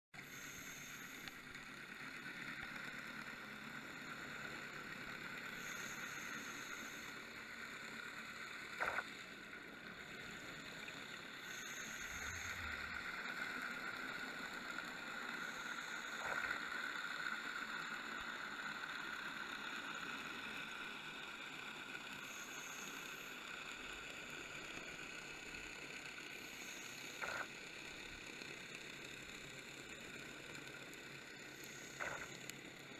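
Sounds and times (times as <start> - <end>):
muffled underwater drone: 0.2 - 32.9.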